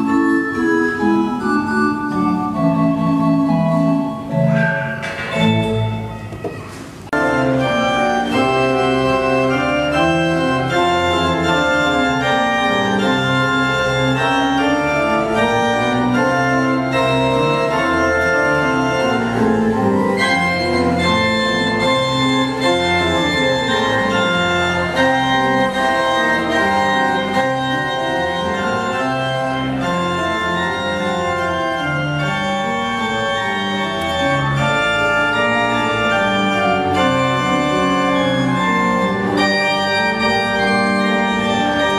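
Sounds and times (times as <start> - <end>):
organ pedal bass line: 0.0 - 4.6, 7.1 - 41.9
pipe organ chords: 0.0 - 6.3, 7.1 - 41.9.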